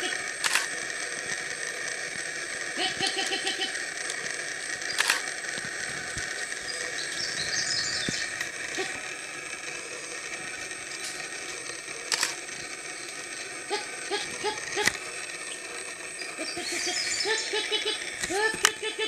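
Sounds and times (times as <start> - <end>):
high insect drone: 0.0 - 19.0
sharp clicks: 0.0 - 19.0
birds chirping: 1.6 - 19.0.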